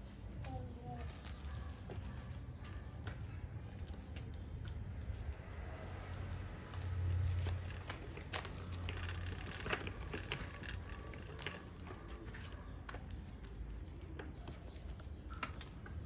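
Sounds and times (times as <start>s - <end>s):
bicycle tyres crunching on concrete: 0.4s - 16.0s.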